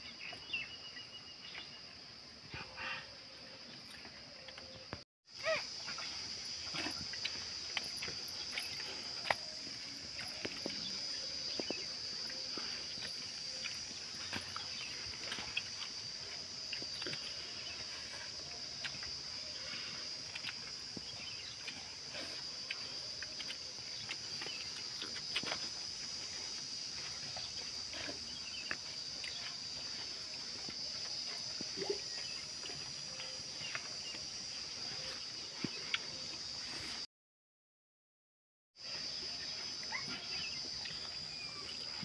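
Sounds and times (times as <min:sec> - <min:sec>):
insects droning: 0:00.0 - 0:37.1, 0:38.8 - 0:42.0.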